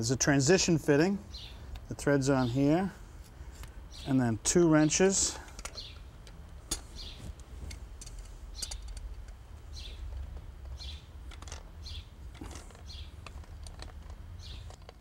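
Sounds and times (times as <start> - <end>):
low steady rumble: 0.0 - 15.0
birds chirping: 0.2 - 7.4, 8.5 - 15.0.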